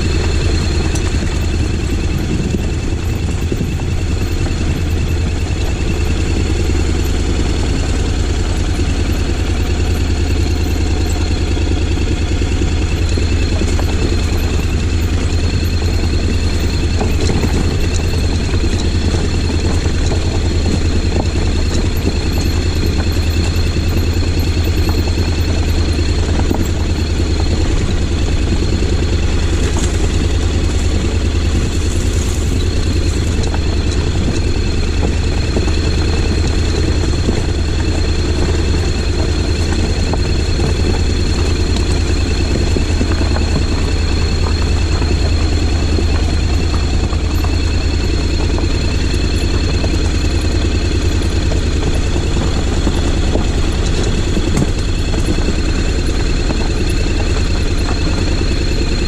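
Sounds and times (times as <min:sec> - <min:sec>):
motorcycle engine droning: 0:00.0 - 0:59.0
thin high whine: 0:00.0 - 0:59.0.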